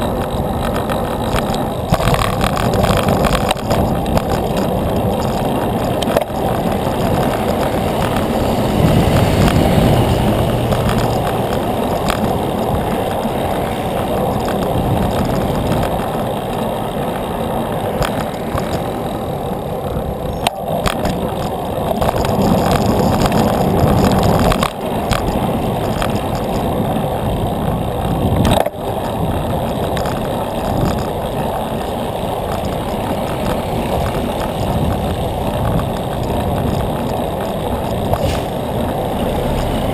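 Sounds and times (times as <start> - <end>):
bicycle tyres on pavement: 0.0 - 39.9
wind on microphone: 0.0 - 39.9.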